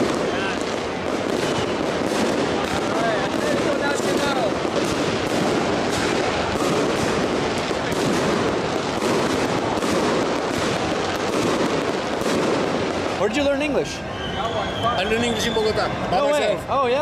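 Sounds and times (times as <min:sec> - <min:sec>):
firecrackers crackling: 0:00.0 - 0:17.0
stadium crowd noise: 0:00.0 - 0:17.0.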